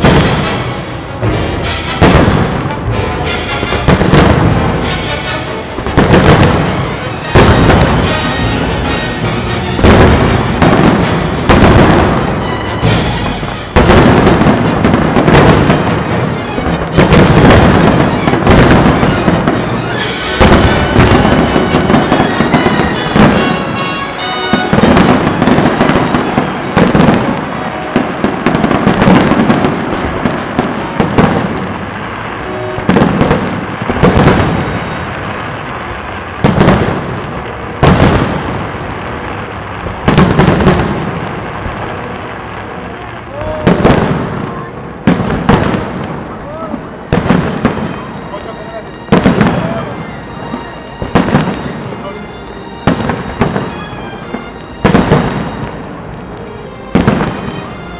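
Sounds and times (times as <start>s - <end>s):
fireworks booming: 0.0s - 57.9s.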